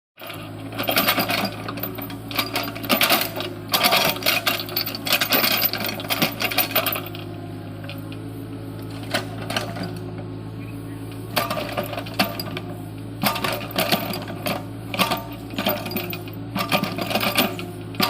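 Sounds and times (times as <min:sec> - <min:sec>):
metallic clanking and rattling: 0:00.2 - 0:08.2, 0:08.8 - 0:10.2, 0:11.2 - 0:18.0
excavator diesel engine running: 0:00.2 - 0:18.0.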